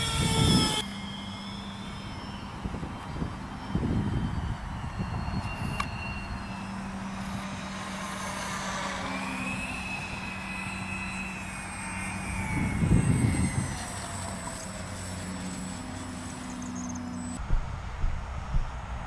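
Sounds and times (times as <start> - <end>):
low rush: 0.0 - 19.0
model jet engines whining: 0.0 - 19.0.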